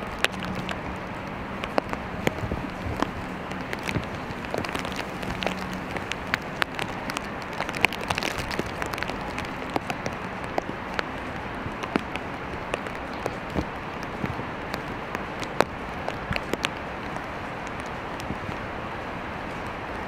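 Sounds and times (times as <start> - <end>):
raindrops tapping: 0.0 - 20.0
steady rain hiss: 0.0 - 20.0.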